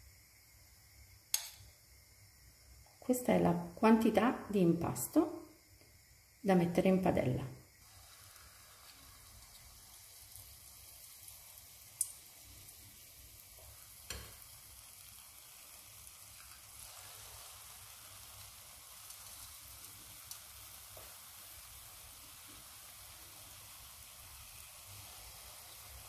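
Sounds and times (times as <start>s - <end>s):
batter sizzling in oil: 0.0s - 26.0s.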